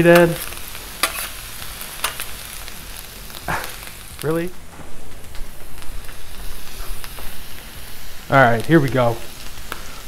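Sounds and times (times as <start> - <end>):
food sizzling on griddle: 0.0 - 10.0.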